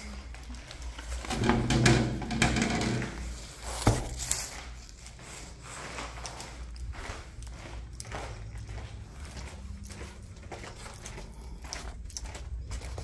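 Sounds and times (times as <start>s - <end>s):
footsteps on hard floor: 0.3s - 13.0s.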